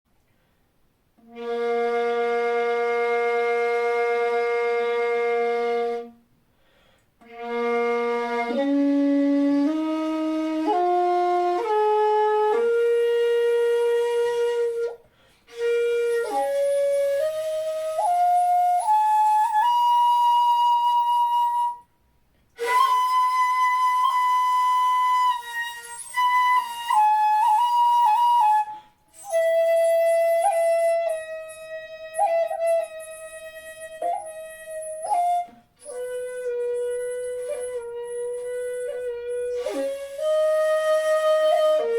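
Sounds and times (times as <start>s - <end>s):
shakuhachi flute playing: 1.2s - 6.3s, 7.2s - 41.9s.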